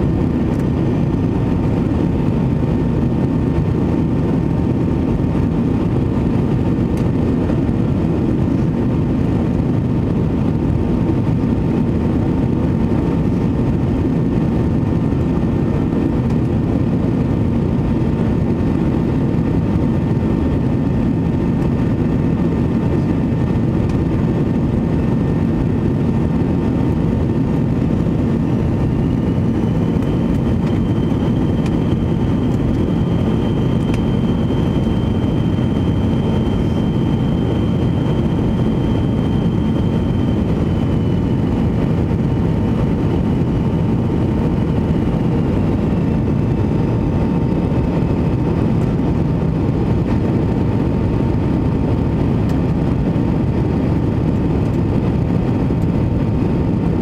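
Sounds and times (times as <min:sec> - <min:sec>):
airflow and jet engine rush: 0:00.0 - 0:57.0
higher whine: 0:00.0 - 0:57.0
thin whine: 0:00.0 - 0:57.0.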